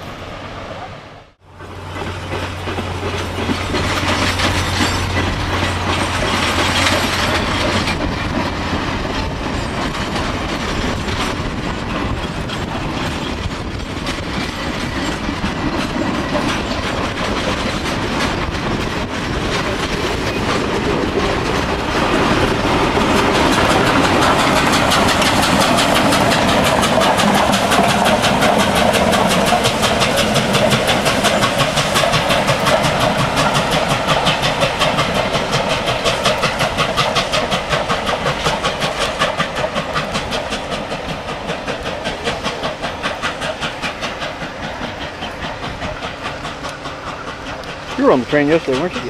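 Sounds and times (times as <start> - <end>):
train wheels clicking over rails: 1.4 - 49.0.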